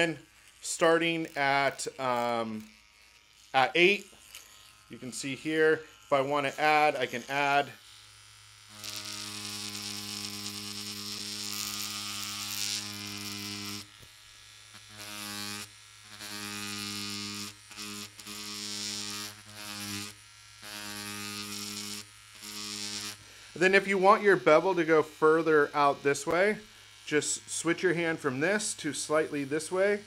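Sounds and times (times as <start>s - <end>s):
tattoo machine buzzing: 0.0s - 30.0s.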